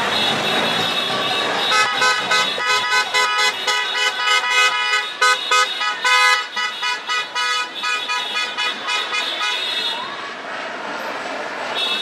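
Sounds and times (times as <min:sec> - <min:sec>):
car horns honking: 0:00.0 - 0:10.2, 0:11.7 - 0:12.0
street traffic noise: 0:00.0 - 0:12.0.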